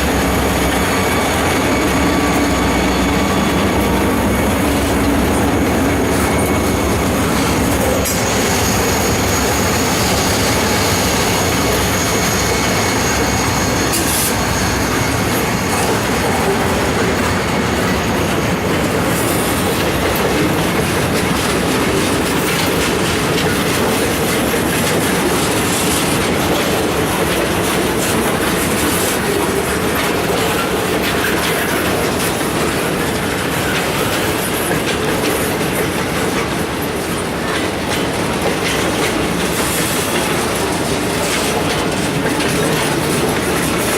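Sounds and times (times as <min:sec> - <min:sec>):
freight train rumbling past: 0:00.0 - 0:43.9
wheels clacking over rail joints: 0:00.0 - 0:43.9.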